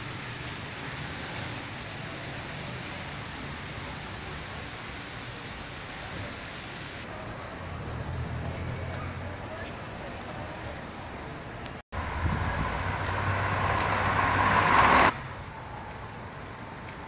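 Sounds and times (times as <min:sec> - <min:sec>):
outdoor rushing noise: 0:00.0 - 0:17.0.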